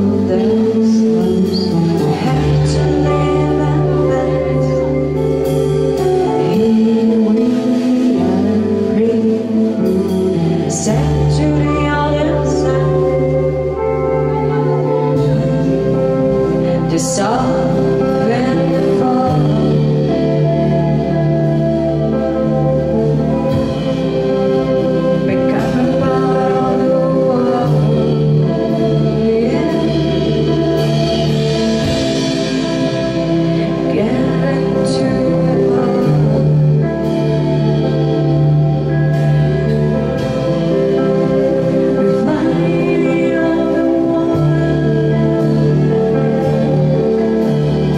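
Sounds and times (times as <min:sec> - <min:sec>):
rock band playing: 0:00.0 - 0:47.9
woman singing into a microphone: 0:00.0 - 0:47.9.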